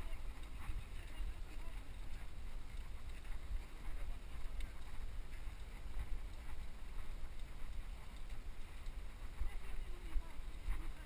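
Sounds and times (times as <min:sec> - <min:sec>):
faint bike clicks: 0:00.0 - 0:11.0
wind rumbling on microphone: 0:00.0 - 0:11.0.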